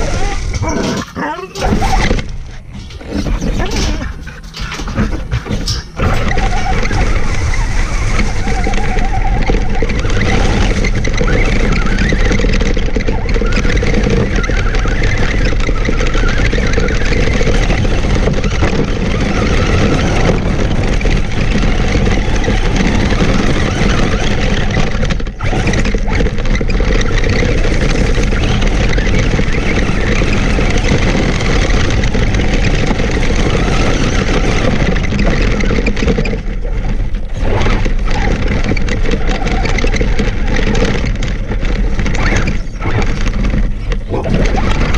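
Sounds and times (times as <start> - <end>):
rc truck drivetrain noise: 0.0 - 44.9.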